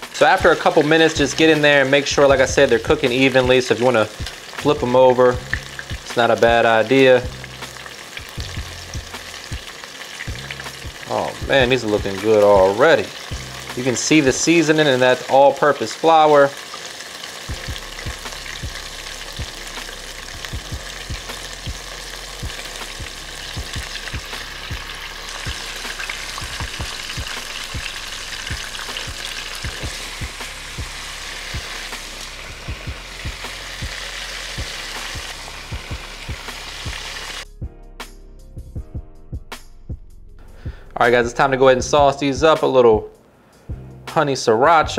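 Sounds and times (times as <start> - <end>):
chicken deep-frying in oil: 0.0 - 37.4.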